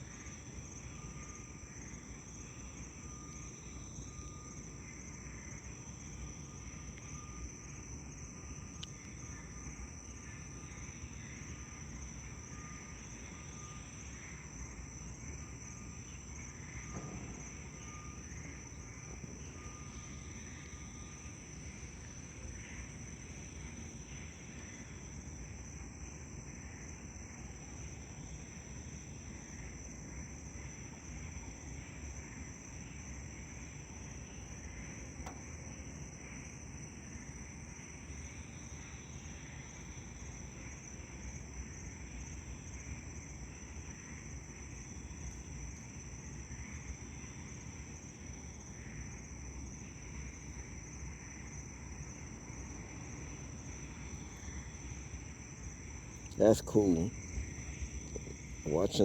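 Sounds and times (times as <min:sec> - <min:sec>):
fluttering insect trill: 0:00.0 - 0:59.0
night insects shrill drone: 0:00.0 - 0:59.0.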